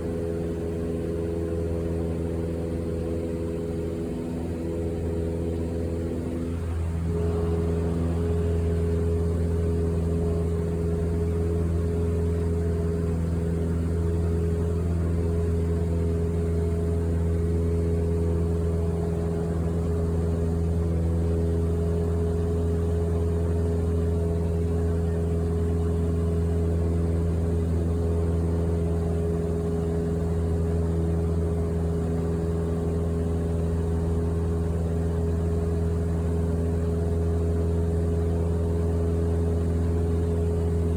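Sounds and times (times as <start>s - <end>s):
aircraft engine drone in cabin: 0.0s - 40.9s.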